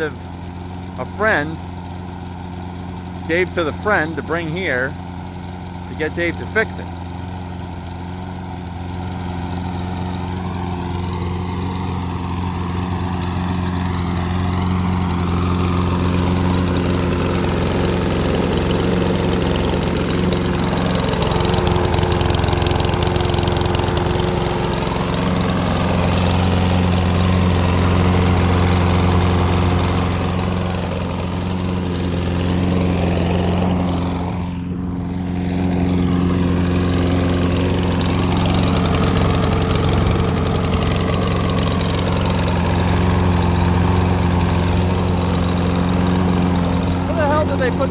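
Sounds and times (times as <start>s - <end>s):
lawnmower engine running: 0.0s - 47.9s.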